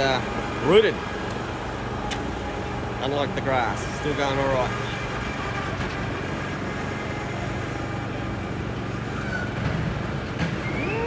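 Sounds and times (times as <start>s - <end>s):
lawn mower engine humming: 0.0s - 10.9s.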